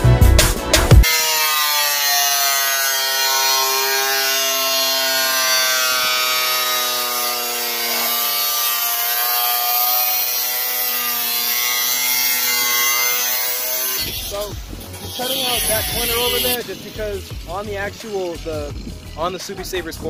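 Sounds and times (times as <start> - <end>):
angle grinder grinding steel: 1.0 - 20.0.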